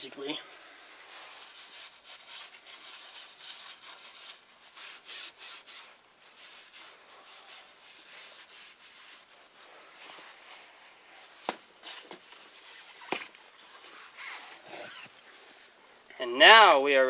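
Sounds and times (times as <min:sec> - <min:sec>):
faint scuffing and rubbing: 0:01.0 - 0:16.0.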